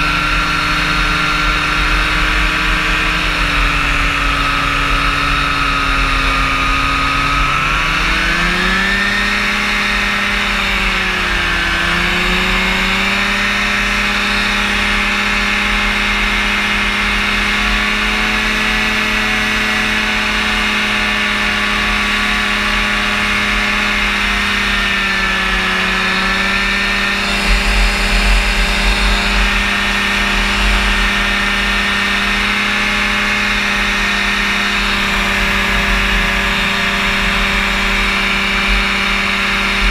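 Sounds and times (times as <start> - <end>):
engine and propeller droning: 0.0 - 39.9.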